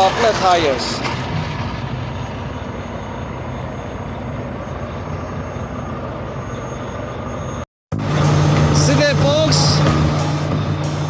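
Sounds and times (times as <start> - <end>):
vehicle engine rumble and hiss: 0.0 - 11.0.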